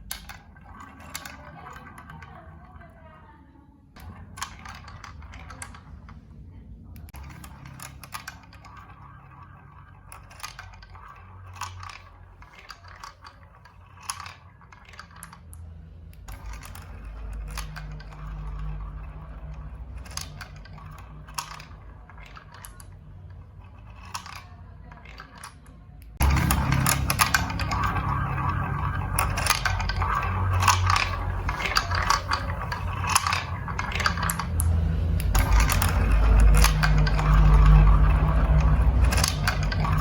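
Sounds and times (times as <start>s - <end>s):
marbles clacking on plastic: 0.0s - 3.1s, 4.0s - 40.0s.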